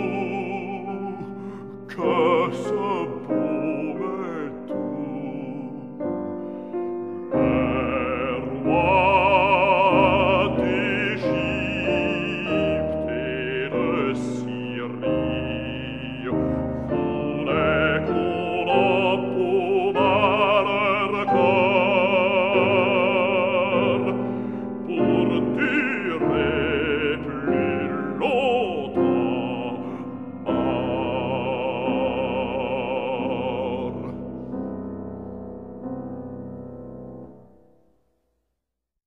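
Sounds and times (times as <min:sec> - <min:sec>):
man singing operatically: 0:00.0 - 0:06.3, 0:07.2 - 0:34.5
piano accompaniment: 0:00.0 - 0:38.2.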